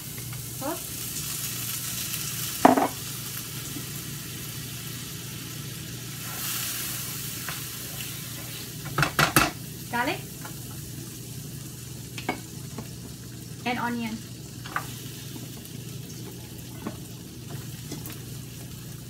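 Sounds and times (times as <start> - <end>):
butter sizzling in a frying pan: 0.0 - 19.0.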